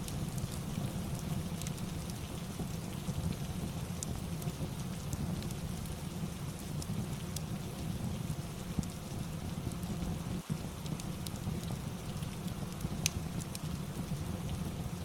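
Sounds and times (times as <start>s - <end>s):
fireplace crackling: 0.0s - 14.6s
steady rain: 0.0s - 15.0s.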